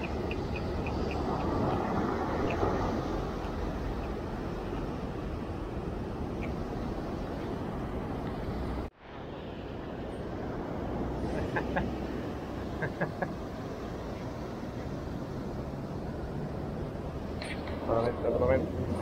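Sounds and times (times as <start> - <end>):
surf rushing: 0.0 - 19.0.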